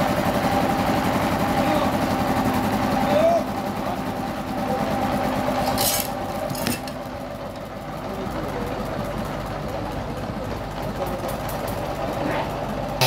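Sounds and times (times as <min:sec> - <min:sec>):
sawmill engine idling: 0:00.0 - 0:13.0.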